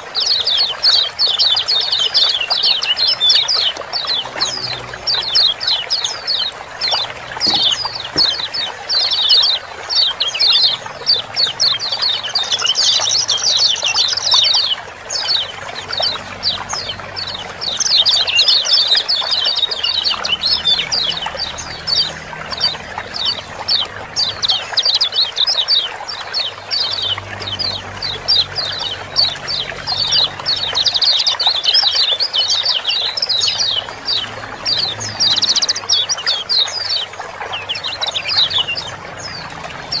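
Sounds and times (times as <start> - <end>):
birds chirping: 0.0 - 40.0
running water: 0.0 - 40.0.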